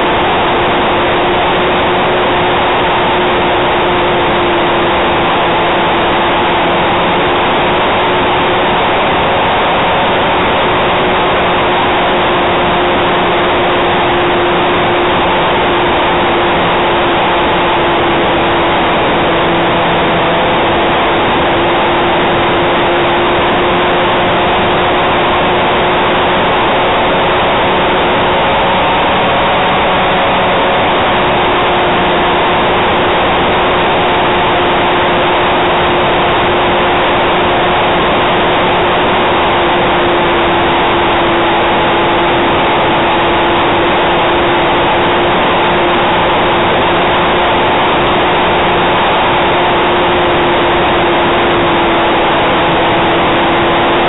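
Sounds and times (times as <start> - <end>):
model plane motor and propeller: 0.0 - 54.0
wind noise on microphone: 0.0 - 54.0.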